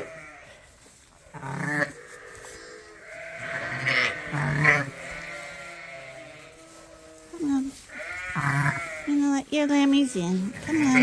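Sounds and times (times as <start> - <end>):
sheep and lambs bleating: 0.0 - 11.0.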